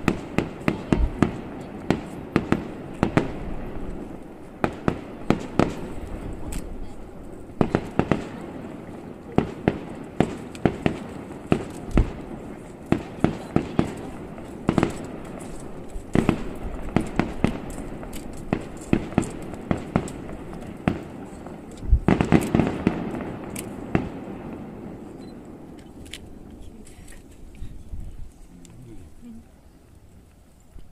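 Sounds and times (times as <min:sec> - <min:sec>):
distant fireworks bursting: 0:00.0 - 0:27.4.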